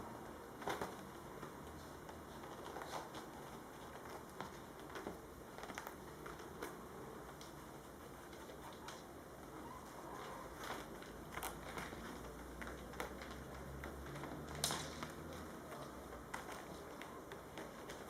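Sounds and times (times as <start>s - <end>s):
kittens' claws scratching: 0.6s - 18.0s.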